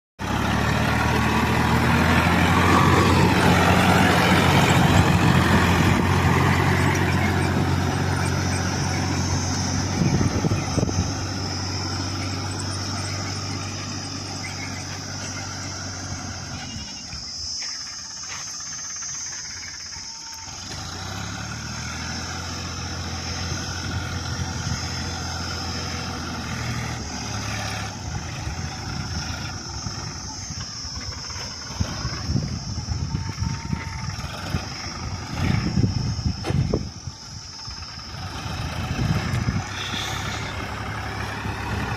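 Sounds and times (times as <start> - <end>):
tractor diesel engine running: 0.2 - 41.9.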